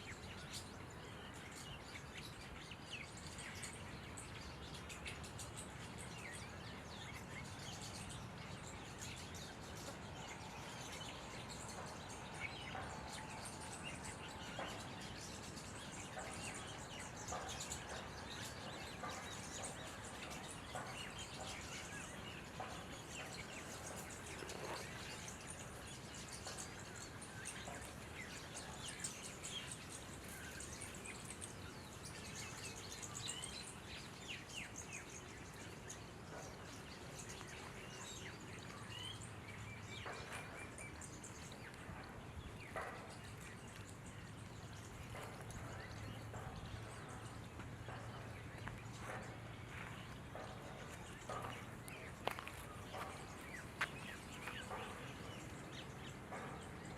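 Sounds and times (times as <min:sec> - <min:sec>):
birds chirping and calling: 0:00.0 - 0:56.9.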